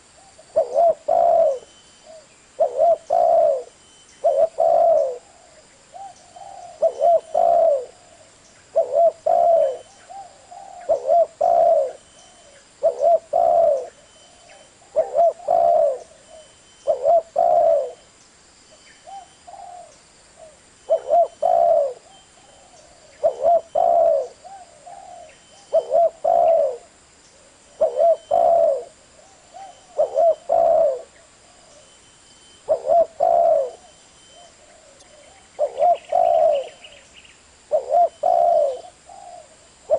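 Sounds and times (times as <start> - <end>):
dove cooing: 0.0 - 18.1, 19.0 - 32.0, 32.6 - 37.0, 37.7 - 39.9.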